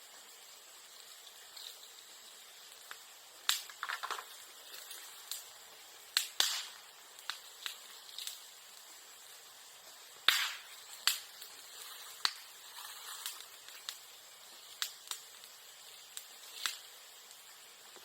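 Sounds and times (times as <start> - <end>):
bamboo popping in bonfire: 0.0 - 18.0.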